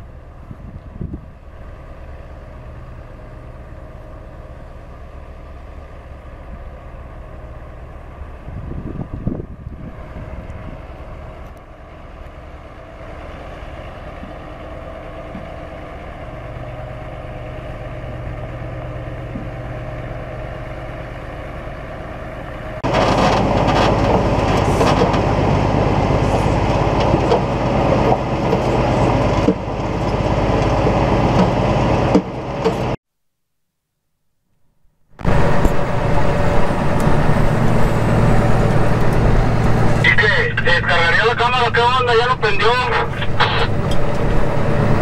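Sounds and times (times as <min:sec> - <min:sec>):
diesel truck engine running: 0:00.0 - 0:33.0, 0:35.2 - 0:45.0.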